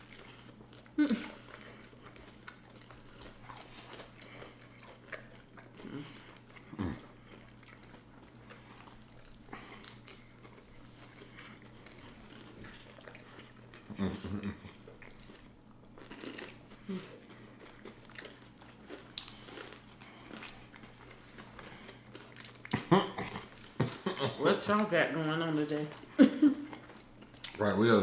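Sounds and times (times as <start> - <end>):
people chewing food: 0.0 - 28.0.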